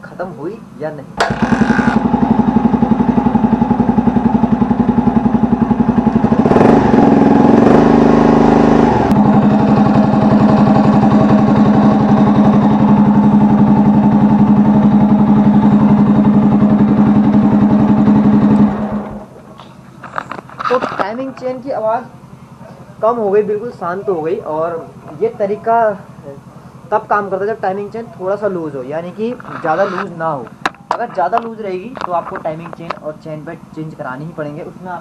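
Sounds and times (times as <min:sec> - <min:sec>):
motorcycle engine idling and revving: 0:01.2 - 0:32.1.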